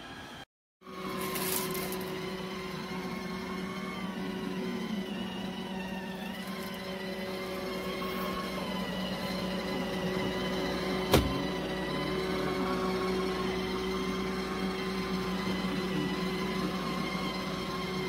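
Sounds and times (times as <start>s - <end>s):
robot vacuum motor hum: 0.8s - 18.0s.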